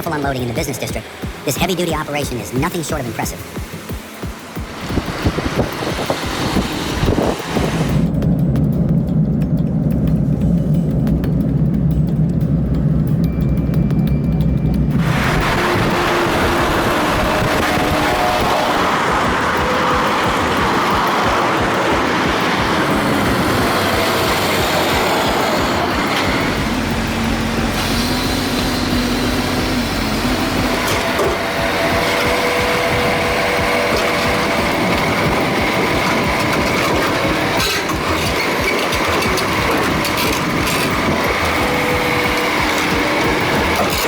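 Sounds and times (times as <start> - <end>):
heavy vehicle engines running: 0.0 - 44.0
machinery noise: 0.0 - 44.0.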